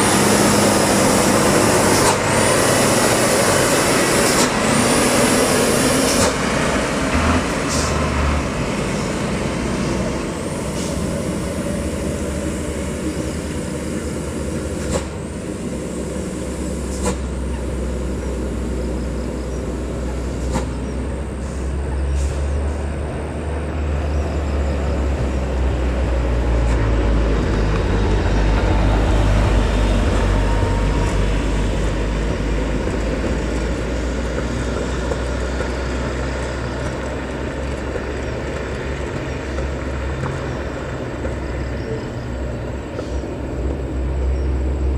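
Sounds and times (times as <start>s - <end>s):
road traffic noise: 0.0s - 44.9s
truck diesel engine rumbling: 0.0s - 44.9s.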